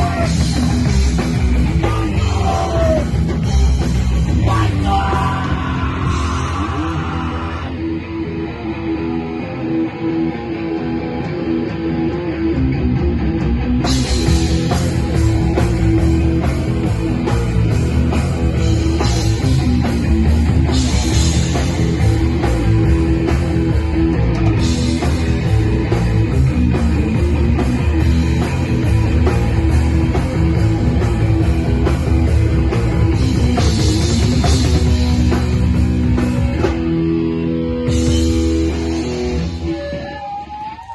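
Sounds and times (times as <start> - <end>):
drum kit and cymbals: 0.0 - 7.2, 13.6 - 40.8
electric guitar: 0.0 - 40.9.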